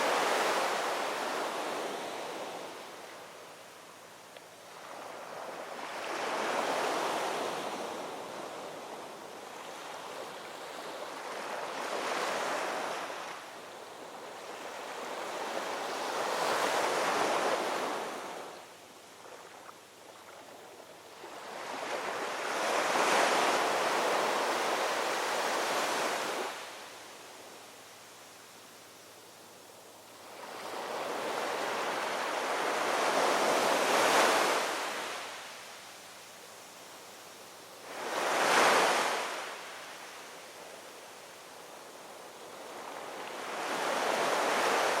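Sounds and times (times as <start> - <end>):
ocean waves washing on shore: 0.0 - 3.9, 4.7 - 28.6, 29.3 - 45.0.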